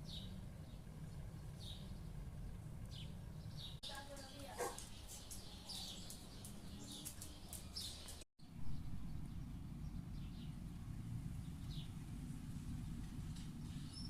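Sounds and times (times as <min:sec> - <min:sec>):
steady low rumble: 0:00.0 - 0:03.8, 0:06.1 - 0:14.0
small birds chirping: 0:00.0 - 0:14.0.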